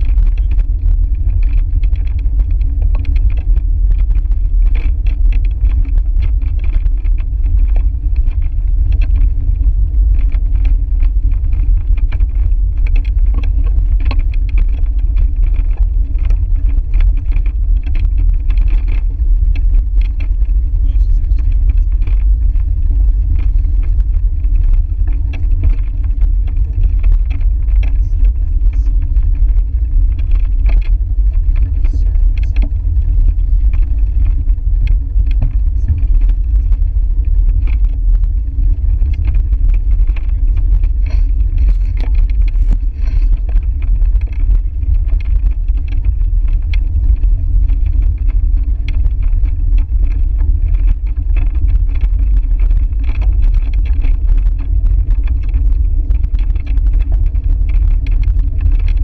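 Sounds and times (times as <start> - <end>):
bicycle tyre and road noise: 0.0 - 59.0
wind buffeting microphone: 0.0 - 59.0.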